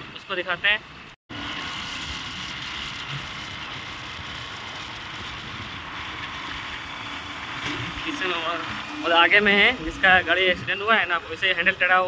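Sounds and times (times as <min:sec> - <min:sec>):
motorcycle road noise: 0:01.0 - 0:12.0.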